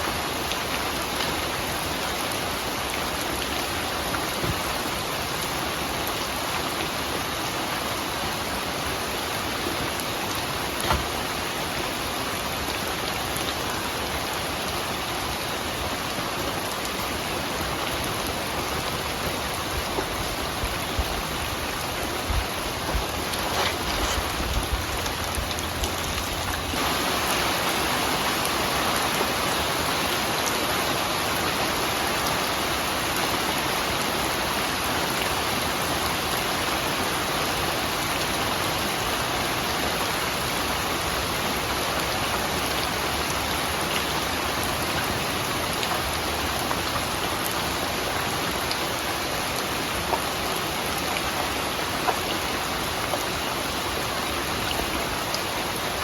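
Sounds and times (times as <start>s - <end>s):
louder raindrops: 0.0s - 56.0s
rain falling: 0.0s - 56.0s.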